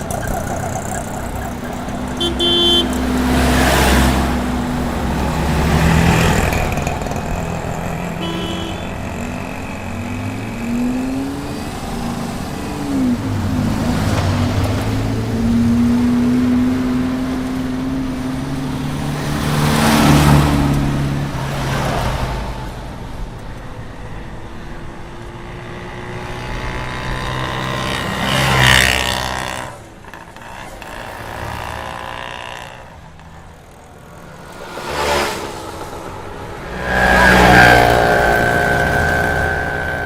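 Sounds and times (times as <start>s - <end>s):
steady engine hum: 0.0s - 21.4s, 22.6s - 40.0s
vehicles passing by: 0.0s - 40.0s.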